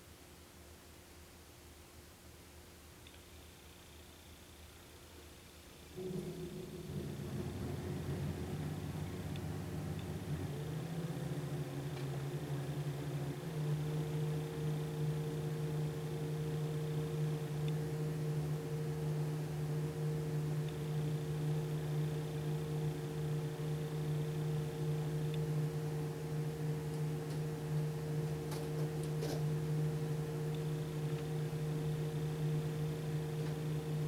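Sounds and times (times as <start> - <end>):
mechanical motor hum: 3.4 - 34.0.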